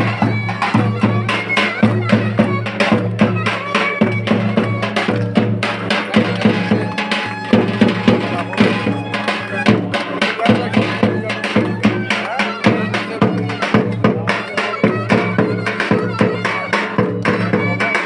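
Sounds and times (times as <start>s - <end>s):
drum beats: 0.0s - 18.0s
reedy folk melody: 0.0s - 18.0s.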